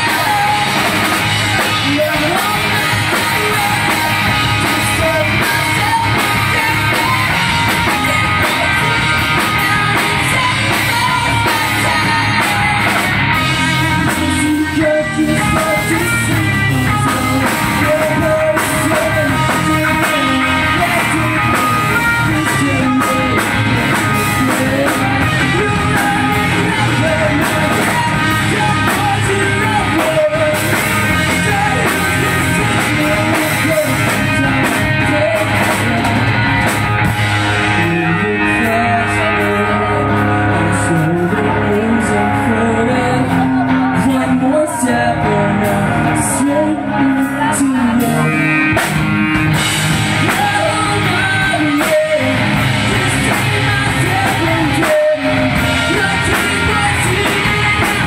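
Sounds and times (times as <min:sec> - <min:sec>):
bass guitar: 0:00.0 - 0:58.0
drum kit: 0:00.0 - 0:58.0
electric guitars: 0:00.0 - 0:58.0
man singing: 0:00.0 - 0:58.0.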